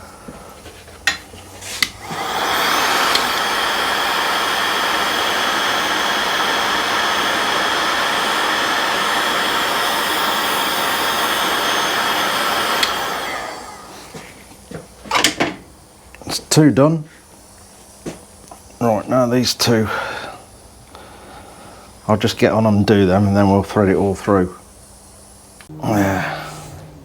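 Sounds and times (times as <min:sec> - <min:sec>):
heat gun blowing with whine: 0:00.0 - 0:27.0.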